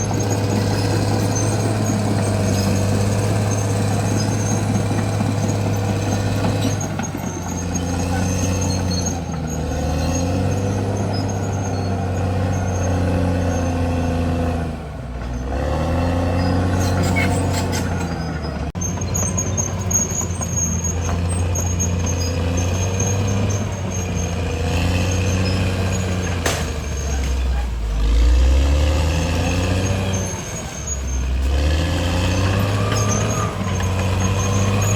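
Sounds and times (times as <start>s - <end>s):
bulldozer diesel engine: 0.0s - 34.9s
steel tracks squealing: 0.0s - 34.9s.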